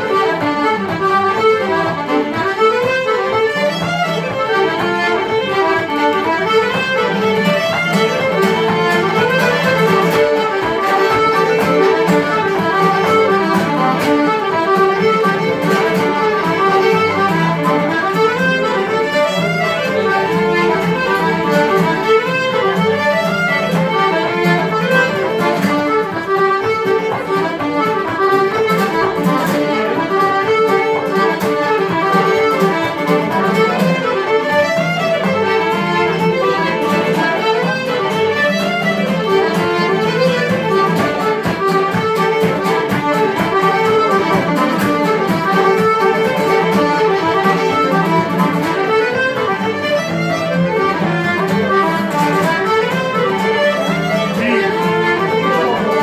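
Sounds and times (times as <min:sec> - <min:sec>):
button accordion: 0:00.0 - 0:56.0
fiddles playing a lively tune: 0:00.0 - 0:56.0
guitar accompaniment: 0:00.0 - 0:56.0.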